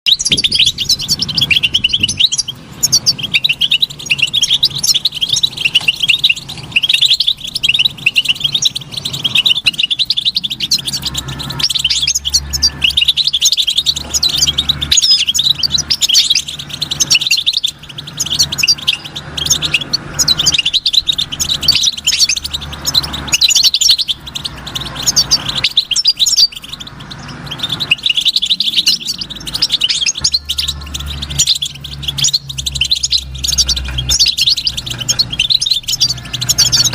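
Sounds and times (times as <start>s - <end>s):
goldfinch twittering song: 0.0s - 36.9s.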